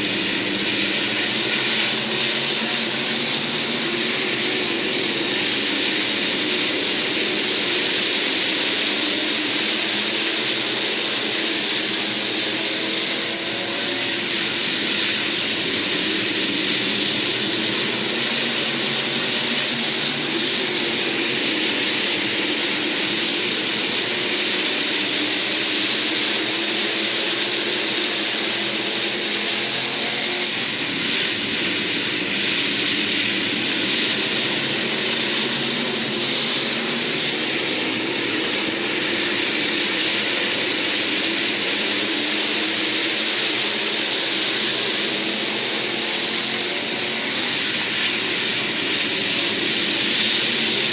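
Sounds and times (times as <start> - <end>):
race car engines roaring: 0.0 - 50.9.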